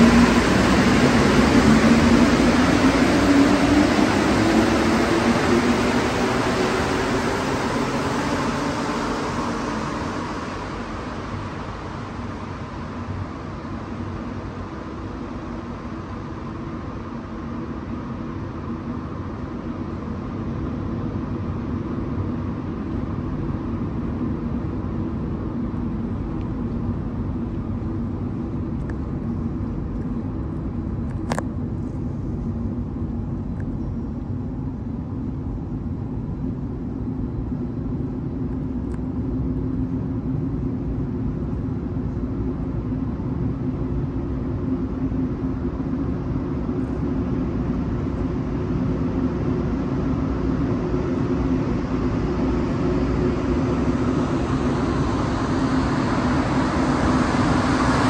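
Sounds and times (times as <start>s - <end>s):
metro station rumble and hum: 0.0s - 58.0s.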